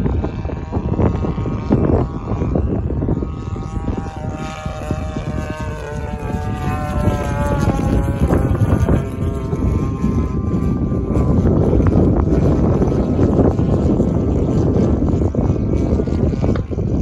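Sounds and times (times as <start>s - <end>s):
model airplane engine running: 0.0s - 17.0s
wind buffeting microphone: 0.0s - 17.0s.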